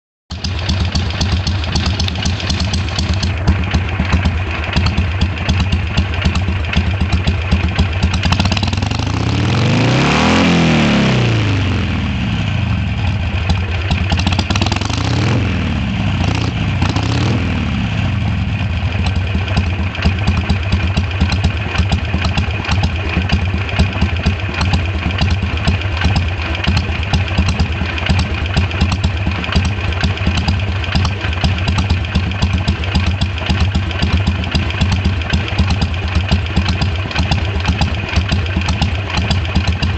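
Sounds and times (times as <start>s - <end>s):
motorcycle engine idling and revving: 0.3s - 39.9s.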